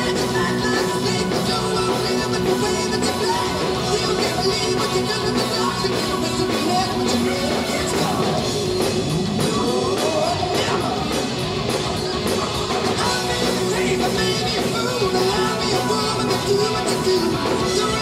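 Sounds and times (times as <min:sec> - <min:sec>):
man singing: 0:00.0 - 0:08.7, 0:09.4 - 0:11.3, 0:12.1 - 0:18.0
bass guitar: 0:00.0 - 0:18.0
distorted electric guitar: 0:00.0 - 0:18.0
drum kit: 0:00.0 - 0:18.0.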